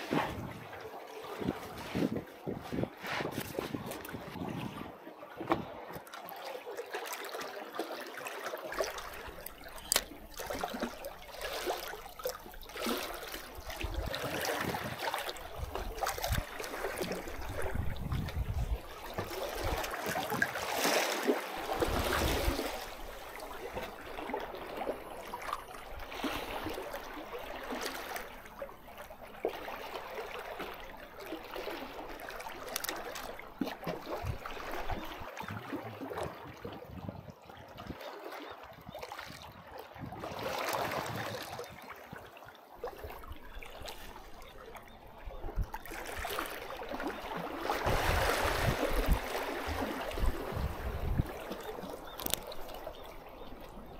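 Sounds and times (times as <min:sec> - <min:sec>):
seawater sloshing and trickling: 0:00.0 - 0:53.9.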